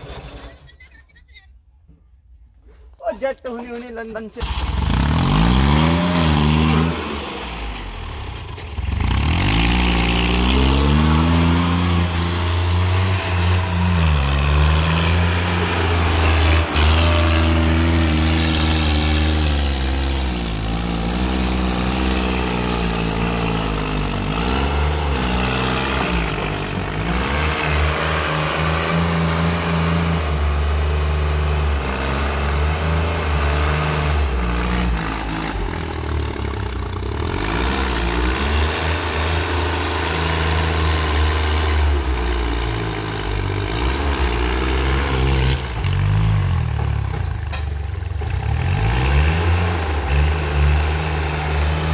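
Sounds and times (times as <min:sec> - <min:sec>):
tractor engine revving: 0:04.2 - 0:51.9.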